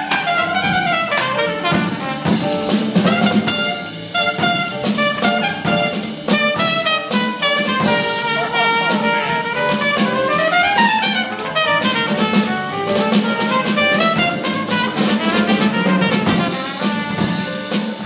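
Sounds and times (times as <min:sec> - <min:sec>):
upright bass: 0:00.0 - 0:17.8
drum kit: 0:00.0 - 0:18.0
jazz trumpet soloing: 0:00.0 - 0:18.0.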